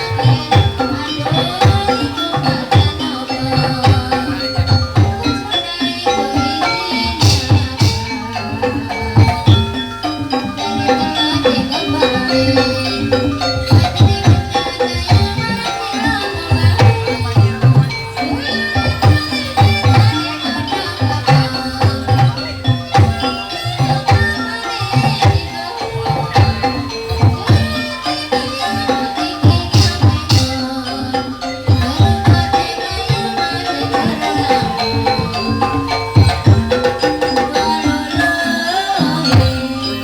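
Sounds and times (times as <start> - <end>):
hand drum beats: 0.0 - 40.0
rattling percussion: 0.0 - 40.0
ringing pitched metal tones: 0.0 - 40.0.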